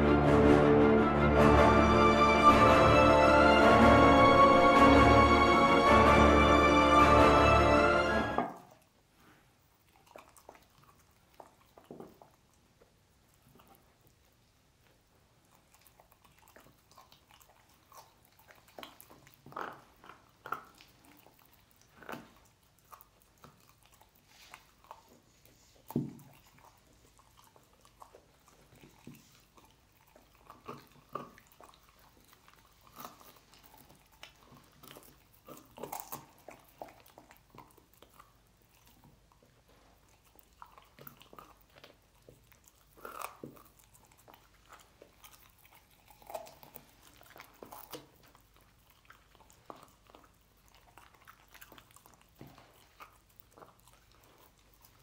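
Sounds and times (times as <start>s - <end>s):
dog crunching bones: 9.8s - 55.0s.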